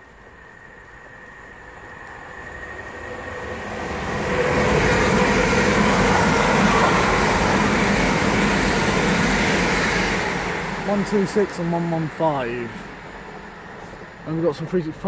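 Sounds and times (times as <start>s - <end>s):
electric train passing: 0.0s - 15.0s.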